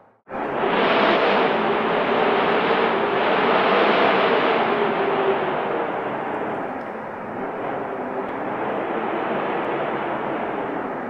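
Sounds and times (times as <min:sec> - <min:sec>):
snowstorm wind blowing: 0:00.0 - 0:11.0.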